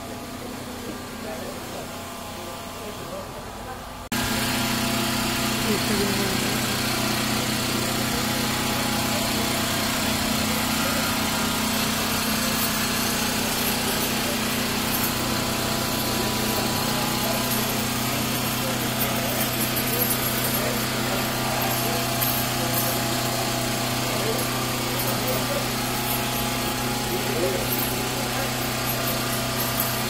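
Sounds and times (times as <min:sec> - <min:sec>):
small motor humming: 0:00.0 - 0:30.0.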